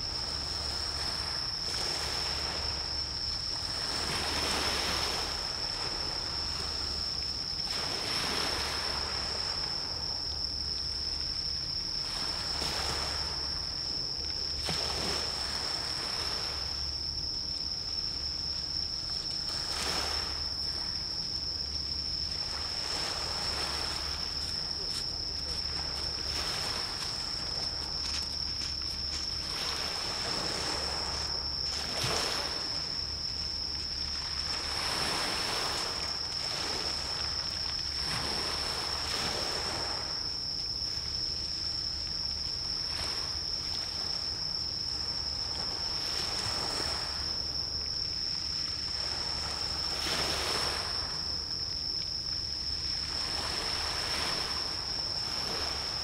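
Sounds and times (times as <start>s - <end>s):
small waves washing in: 0.0s - 17.0s, 19.0s - 51.5s, 52.6s - 56.0s
high-pitched insect trill: 0.0s - 56.0s.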